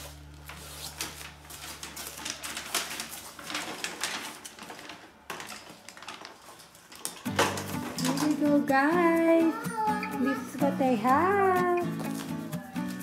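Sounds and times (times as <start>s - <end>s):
paper rustling: 0.0s - 9.1s, 11.0s - 13.0s.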